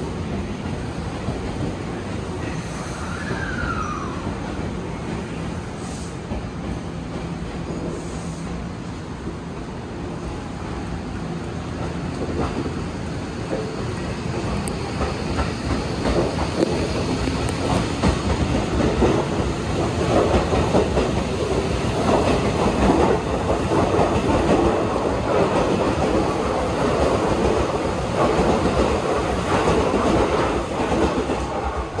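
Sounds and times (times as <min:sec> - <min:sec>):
electric train passing: 0:00.0 - 0:32.0
wheel and rail noise: 0:00.0 - 0:32.0.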